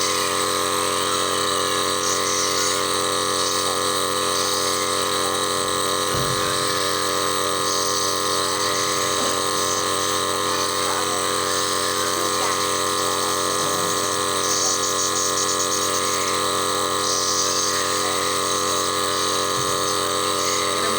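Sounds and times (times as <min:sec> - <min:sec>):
nebulizer compressor motor humming: 0:00.0 - 0:20.9.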